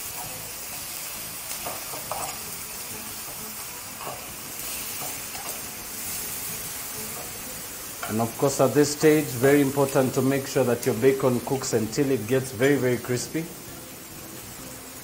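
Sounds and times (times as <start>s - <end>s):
bacon sizzling in frying pan: 0.0s - 15.0s.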